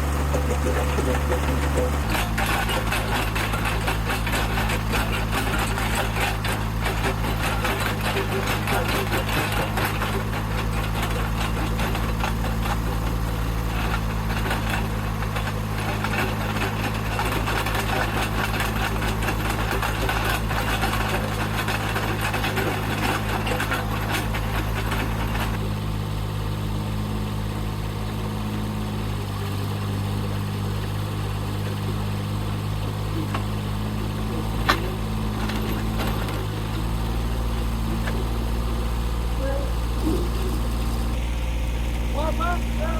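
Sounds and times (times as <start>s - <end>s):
auger grinding into rocky ground: 0.0s - 25.6s, 33.1s - 42.9s
auger engine running: 0.0s - 42.9s.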